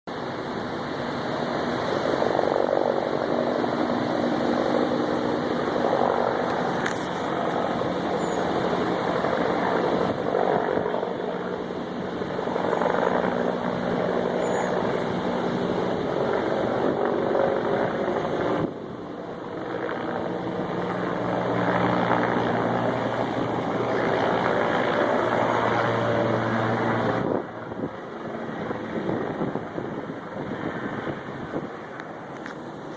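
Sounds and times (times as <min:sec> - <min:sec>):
helicopter rotor drone: 0:00.1 - 0:32.9.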